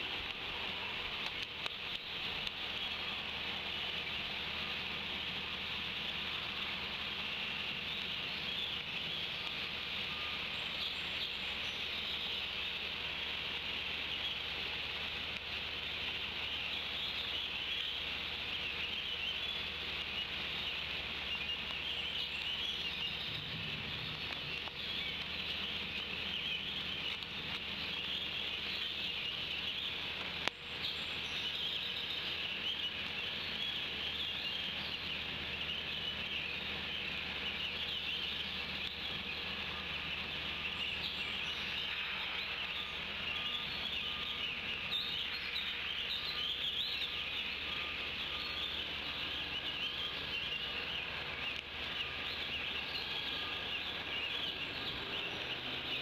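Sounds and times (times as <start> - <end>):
rain hiss: 0.0 - 56.0
songbird chorus: 0.0 - 56.0.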